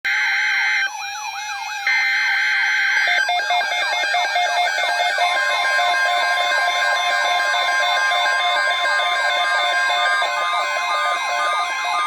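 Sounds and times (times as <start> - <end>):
digital data bursts: 0.1 - 12.0
warbling siren-like tone: 0.1 - 12.0.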